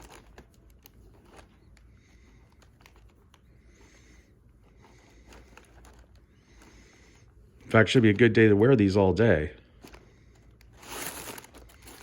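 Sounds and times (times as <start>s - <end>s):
soft rustling: 0.0s - 8.4s, 9.7s - 12.0s.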